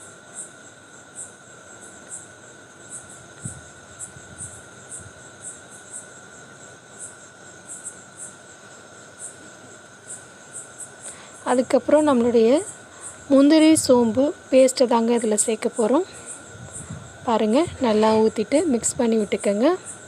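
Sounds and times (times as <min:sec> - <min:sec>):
cricket chirping: 0:00.0 - 0:20.0
steady high whine: 0:00.0 - 0:20.0.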